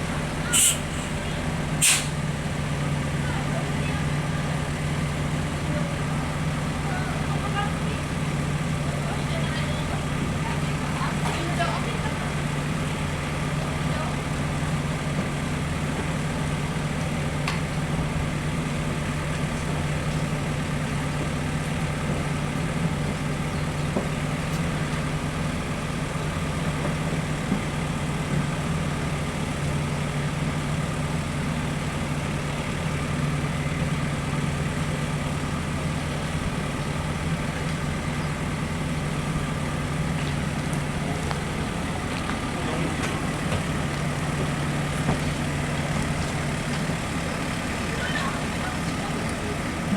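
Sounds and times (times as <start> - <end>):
bus diesel engine idling: 0.0 - 49.9.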